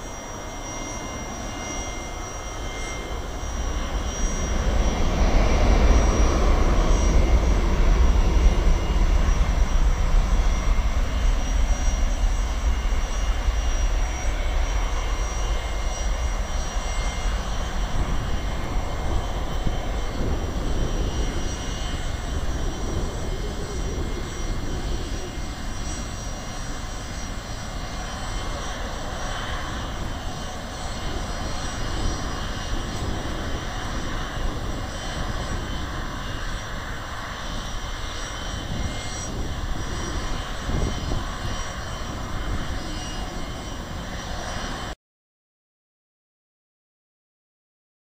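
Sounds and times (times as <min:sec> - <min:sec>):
airliner engines rumbling: 0:00.0 - 0:45.0.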